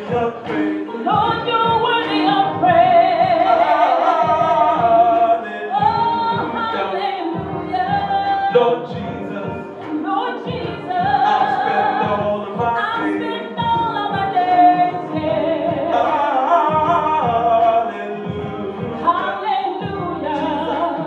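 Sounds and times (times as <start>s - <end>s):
gospel singing: 0.0s - 21.0s.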